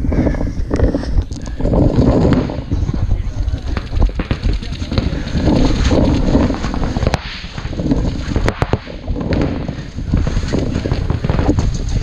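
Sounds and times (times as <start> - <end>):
wind buffeting microphone: 0.0 - 12.0
paintball shots: 1.4 - 12.0.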